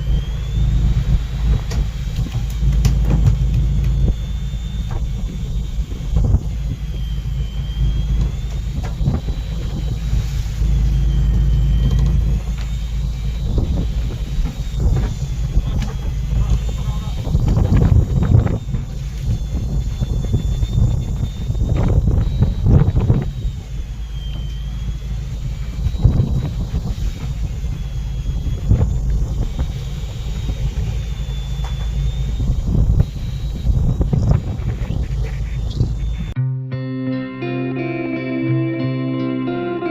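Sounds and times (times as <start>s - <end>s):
boat engine rumbling: 0.0s - 36.6s
faint high whine: 0.0s - 39.9s.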